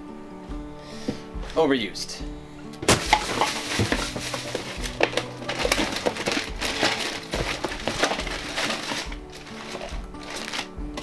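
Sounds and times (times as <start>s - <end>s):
background music with low beat: 0.0s - 11.0s
objects crinkling and clattering: 0.5s - 11.0s.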